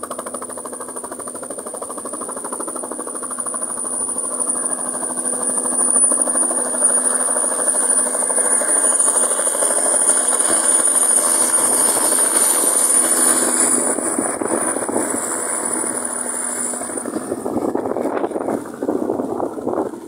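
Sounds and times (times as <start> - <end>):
helicopter rotor chop: 0.0 - 20.0
high turbine whine: 2.4 - 20.0.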